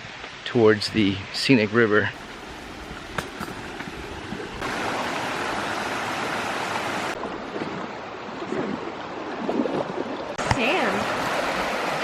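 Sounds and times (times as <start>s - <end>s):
creek water rushing: 0.1s - 12.0s.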